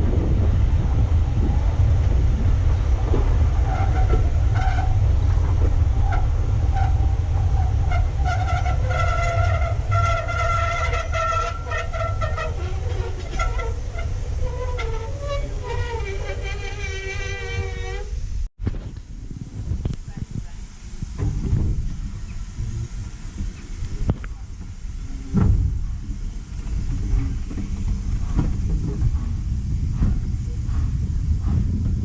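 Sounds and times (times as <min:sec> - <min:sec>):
passing train: 0:00.0 - 0:32.0
wind buffeting microphone: 0:00.0 - 0:32.0.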